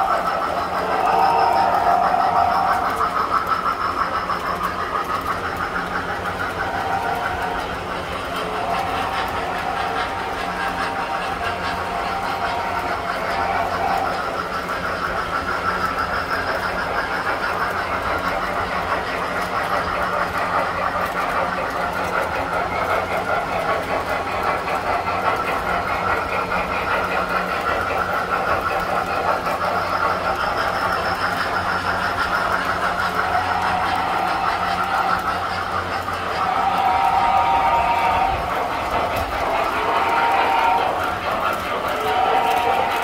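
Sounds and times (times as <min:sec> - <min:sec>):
toy train motor whine: 0:00.0 - 0:43.0.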